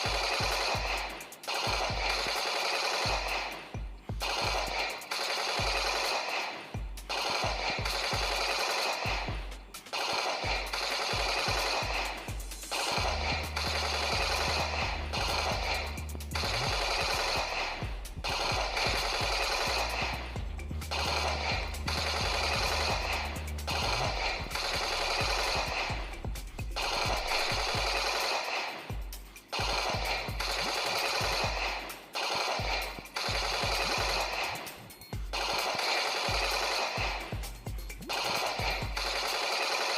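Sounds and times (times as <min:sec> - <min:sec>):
toy gun machine-gun effect: 0:00.0 - 0:39.9.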